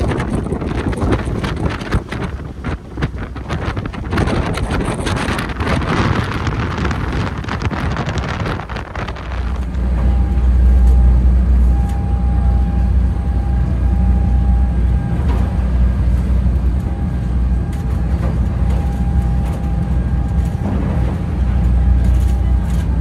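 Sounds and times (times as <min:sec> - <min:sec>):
ferry engines droning: 0:00.0 - 0:23.0.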